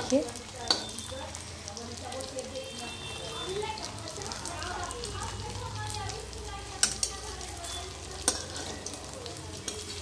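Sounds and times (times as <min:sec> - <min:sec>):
balls sizzling in oil: 0:00.0 - 0:10.0.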